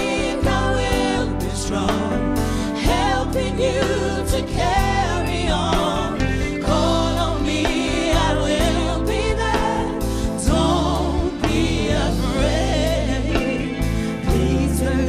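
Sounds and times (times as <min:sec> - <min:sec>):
gospel singers with band: 0:00.0 - 0:15.0.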